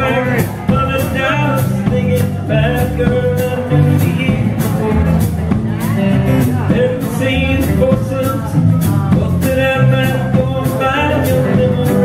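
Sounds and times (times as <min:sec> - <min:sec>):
drum kit steady beat: 0:00.0 - 0:12.0
electric guitar: 0:00.0 - 0:12.0
second electric guitar: 0:00.0 - 0:12.0
strummed acoustic guitar: 0:00.0 - 0:12.0.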